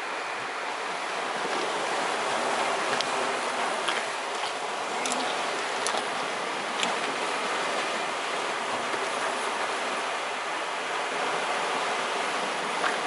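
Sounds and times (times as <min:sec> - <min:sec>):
sea waves washing against rocks: 0:00.7 - 0:13.0.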